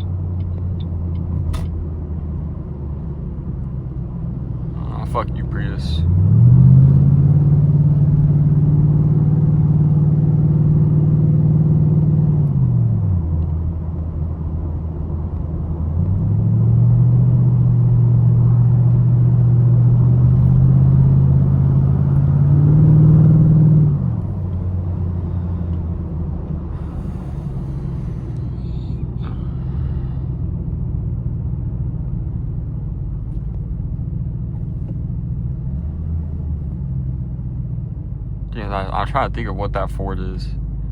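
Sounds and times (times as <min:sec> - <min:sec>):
car engine accelerating: 0:00.0 - 0:14.2, 0:15.1 - 0:40.9
road noise: 0:00.0 - 0:40.9.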